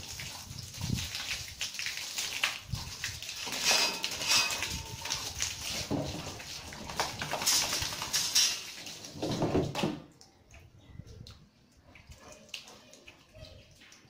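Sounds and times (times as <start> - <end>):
water splashing from hose: 0.0 - 14.0.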